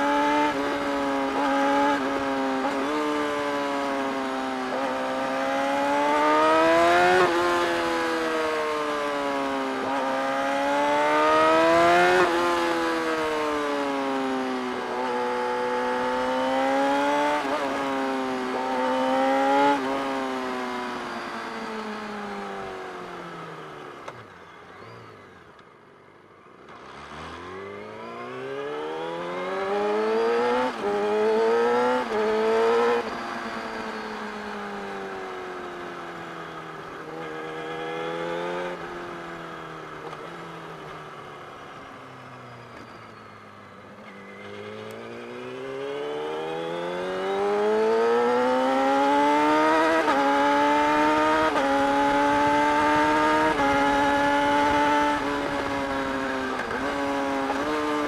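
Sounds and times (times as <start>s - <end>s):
motorcycle engine accelerating: 0.0s - 25.6s, 26.6s - 58.0s.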